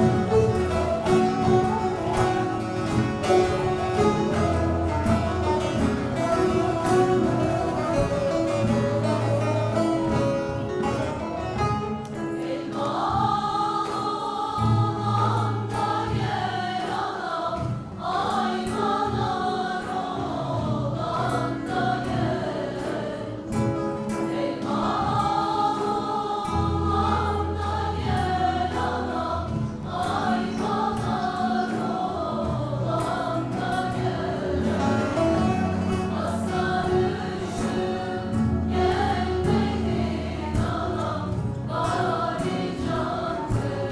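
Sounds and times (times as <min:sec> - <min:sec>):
choir singing in unison: 0:00.0 - 0:43.9
instrumental accompaniment: 0:00.0 - 0:43.9.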